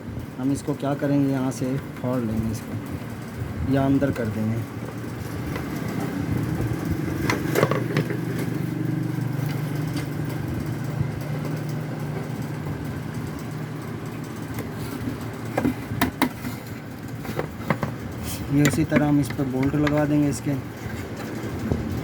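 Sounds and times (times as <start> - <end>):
motorcycle engine idling: 0.5 - 22.0.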